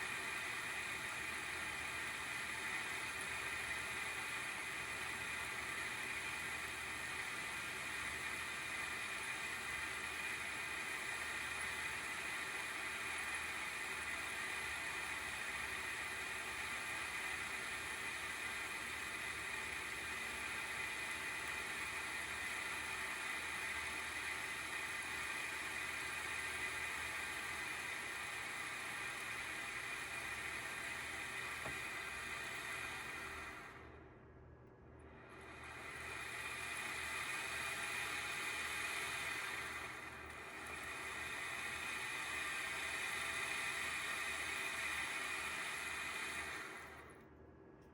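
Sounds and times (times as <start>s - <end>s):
cooling fan whirring with high whine: 0.0s - 47.9s.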